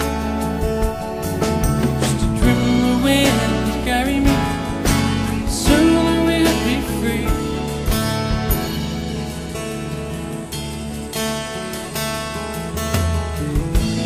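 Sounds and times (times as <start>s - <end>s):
sliding lead melody: 0.0s - 14.0s
soft rock band with guitar: 0.0s - 14.0s.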